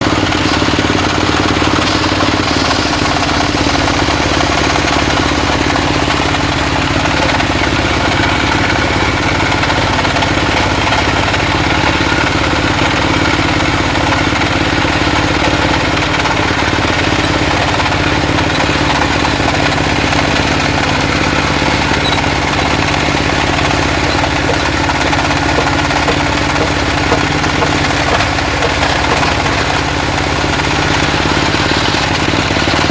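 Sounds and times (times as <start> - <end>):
circular saw cutting wood: 0.0 - 31.4.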